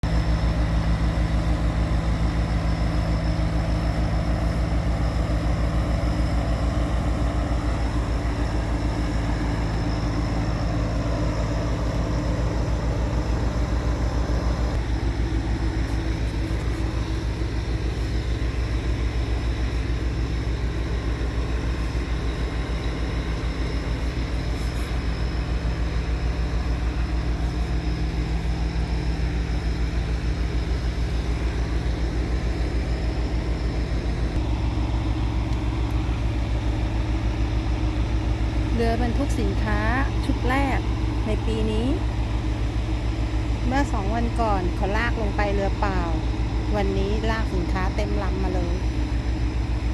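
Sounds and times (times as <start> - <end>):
boat engine throbbing: 0.0 - 49.9.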